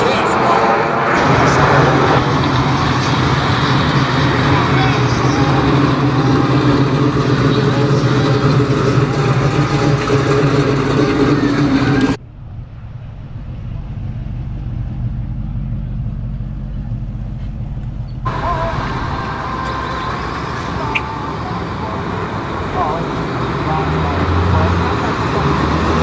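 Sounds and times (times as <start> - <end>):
car engine running: 0.0 - 26.0
low rumble: 0.0 - 26.0.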